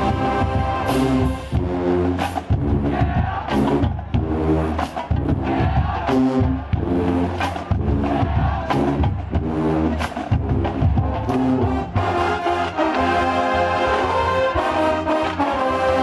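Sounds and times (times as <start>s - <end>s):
brass riffs: 0.0s - 16.0s
marching band playing: 0.0s - 16.0s.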